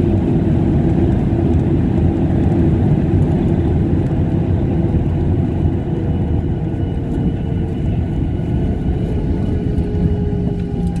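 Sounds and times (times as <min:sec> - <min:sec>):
faint engine whine: 0:00.0 - 0:11.0
low rumble of engines and wheels: 0:00.0 - 0:11.0.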